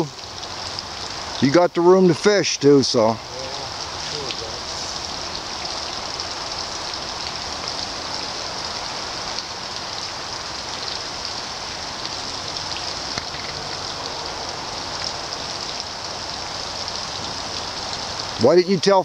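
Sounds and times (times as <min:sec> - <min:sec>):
water hissing: 0:00.0 - 0:19.0.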